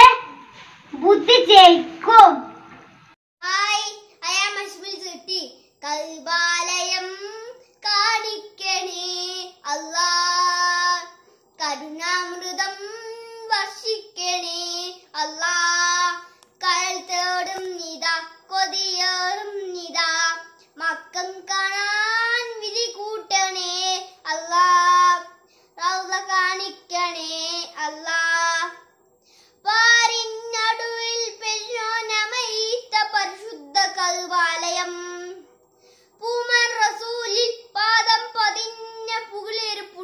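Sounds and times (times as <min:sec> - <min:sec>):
young boy singing: 0:03.4 - 0:28.9, 0:29.6 - 0:35.4, 0:36.2 - 0:40.0.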